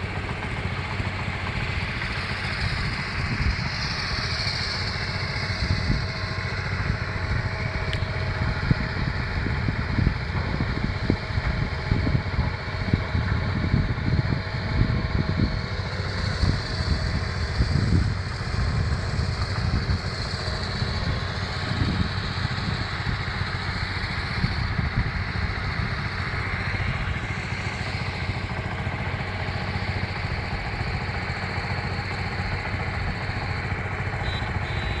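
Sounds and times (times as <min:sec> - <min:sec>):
vehicle engine running: 0:00.0 - 0:35.0
wind buffeting microphone: 0:00.0 - 0:35.0.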